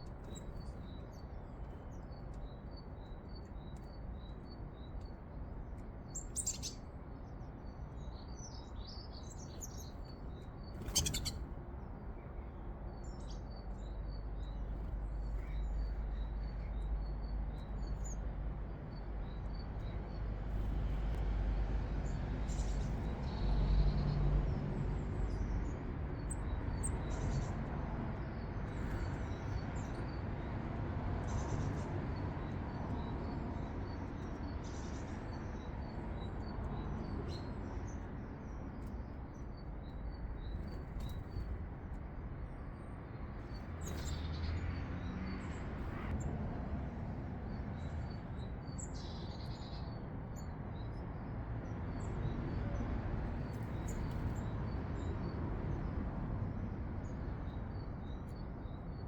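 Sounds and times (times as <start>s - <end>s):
small birds chirping: 0.0s - 21.2s, 22.0s - 24.2s, 25.0s - 46.2s, 47.5s - 51.3s, 51.9s - 56.0s.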